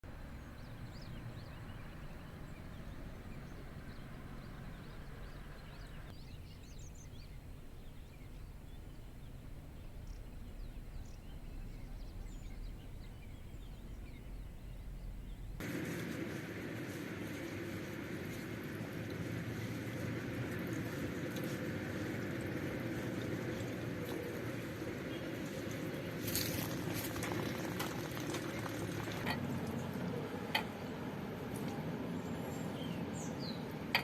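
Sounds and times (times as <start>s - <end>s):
low outdoor rumble: 0.0s - 34.0s
small birds chirping: 0.1s - 34.0s.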